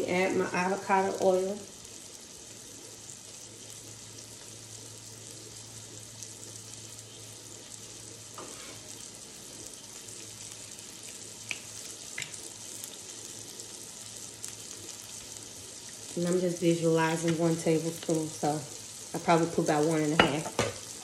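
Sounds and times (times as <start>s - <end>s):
bacon sizzling on a griddle: 0.0s - 21.0s.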